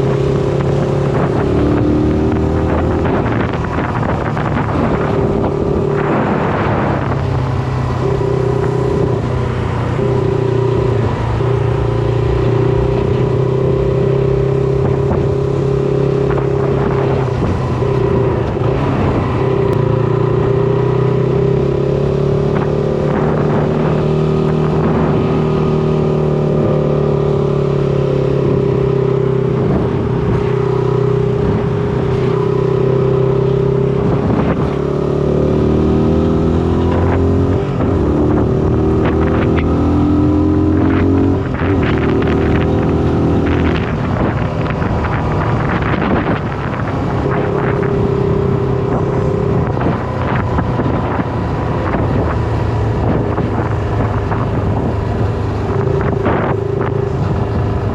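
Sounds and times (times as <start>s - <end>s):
motorcycle engine running: 0.0s - 57.9s
wind rushing over microphone: 0.0s - 57.9s.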